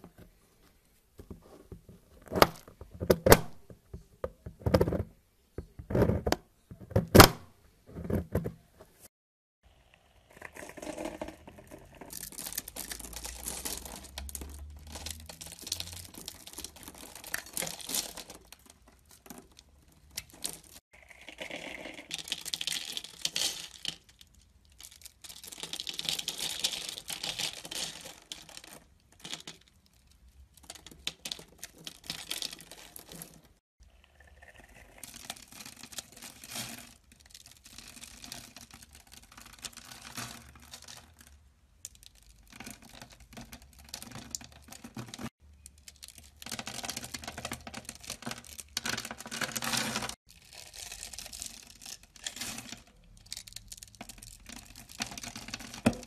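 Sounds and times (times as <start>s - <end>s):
soap crackling as it crumbles: 10.2s - 56.0s.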